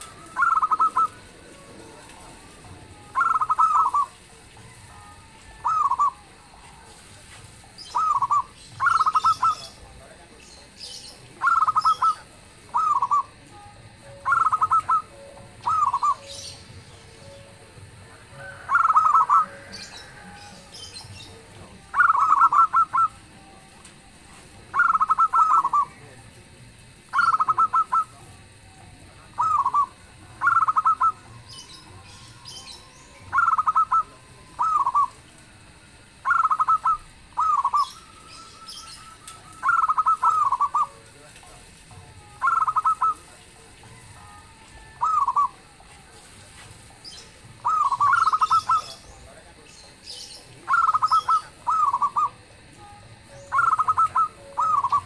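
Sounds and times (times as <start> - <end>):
doves trilled cooing: 0.0 - 55.0.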